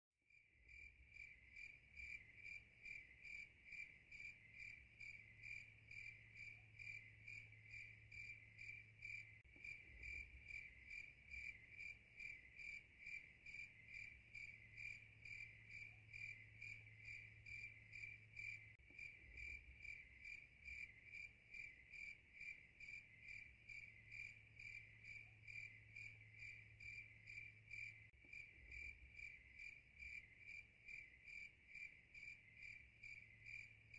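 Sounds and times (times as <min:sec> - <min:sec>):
crickets chirping: 0:00.6 - 0:33.9.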